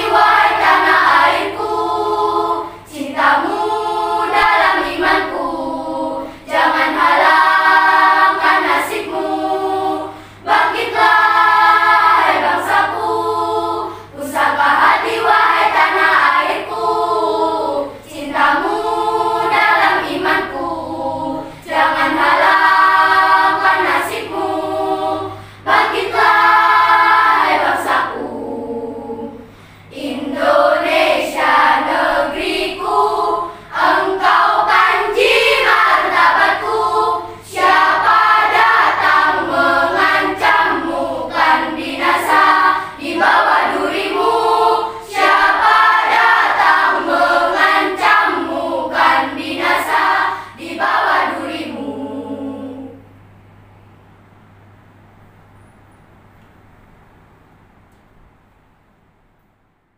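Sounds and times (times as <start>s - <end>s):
children's choir singing: 0.0s - 53.2s.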